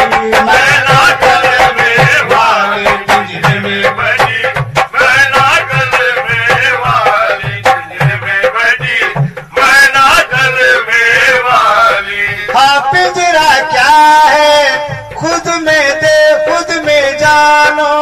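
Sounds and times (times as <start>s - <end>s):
drum beats: 0.0s - 18.0s
person singing verses: 0.0s - 18.0s.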